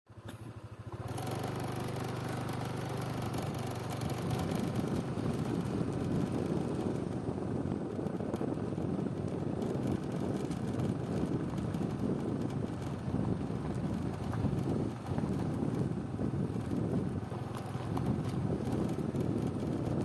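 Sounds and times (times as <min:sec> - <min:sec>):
rough noisy rumble: 0:00.1 - 0:20.0
small engine running: 0:00.1 - 0:20.0.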